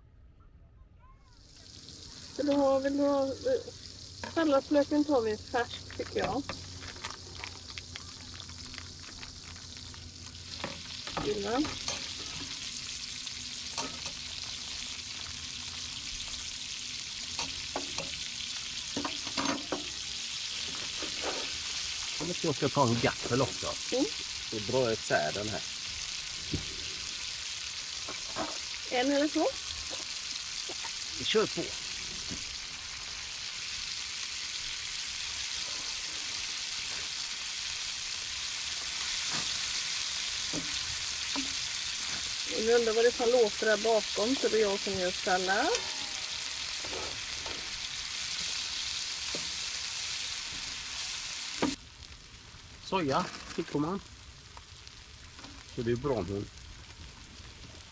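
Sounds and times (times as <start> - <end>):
food sizzling in a frying pan: 1.3 - 57.9.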